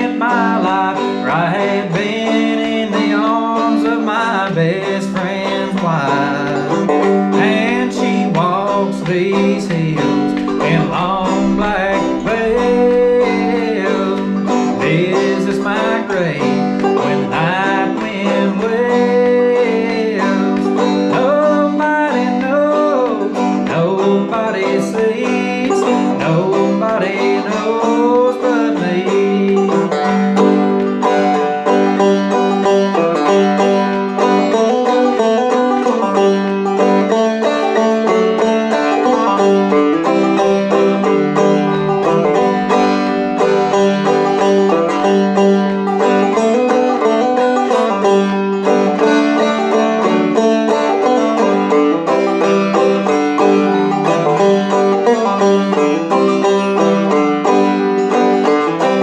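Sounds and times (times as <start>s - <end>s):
banjo plucking: 0.0s - 59.0s.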